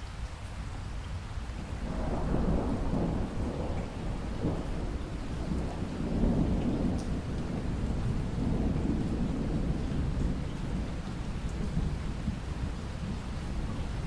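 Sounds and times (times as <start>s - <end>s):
steady rain: 0.0s - 14.0s
thunder rumbling: 1.8s - 14.0s.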